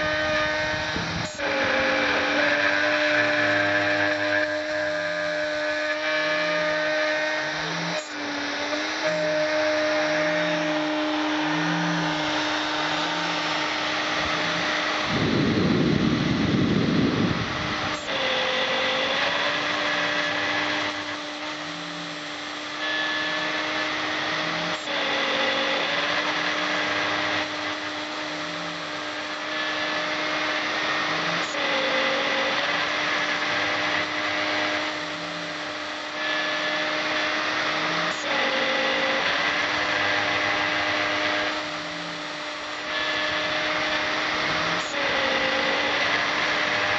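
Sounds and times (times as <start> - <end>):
milling machine spindle running: 0.0 - 46.9
stepper motors moving cutter: 0.0 - 46.9.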